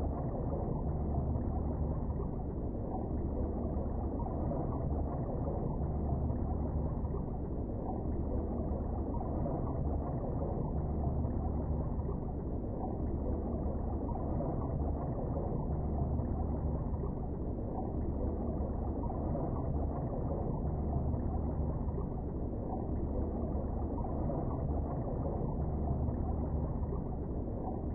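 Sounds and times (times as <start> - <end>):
muffled underwater river current: 0.0 - 27.9.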